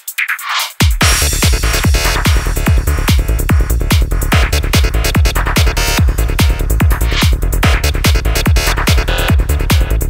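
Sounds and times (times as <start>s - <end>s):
electronic dance music: 0.0s - 10.0s
kick drum: 0.8s - 10.0s.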